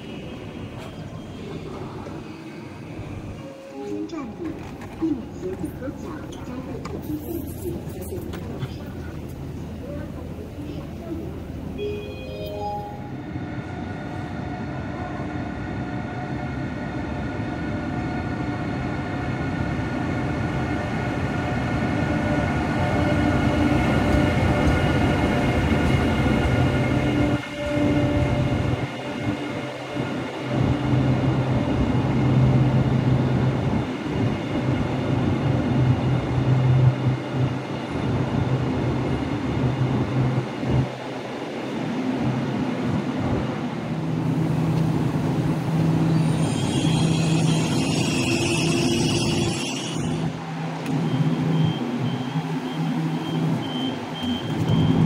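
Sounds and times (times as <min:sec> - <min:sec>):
train whine: 0:08.6 - 0:55.0.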